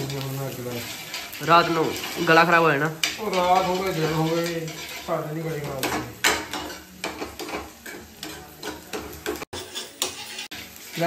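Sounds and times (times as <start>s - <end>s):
ladle scraping frying pan: 0.0s - 11.0s
onions sizzling in oil: 0.0s - 11.0s.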